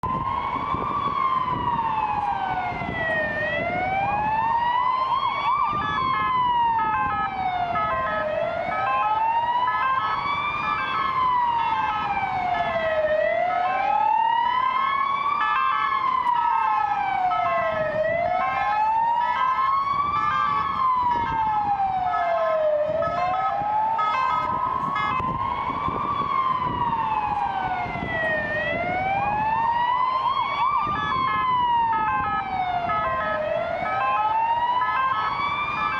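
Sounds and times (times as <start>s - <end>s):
broken siren tones: 0.0s - 35.9s
road and engine noise: 0.0s - 35.9s
siren wailing: 0.0s - 35.9s.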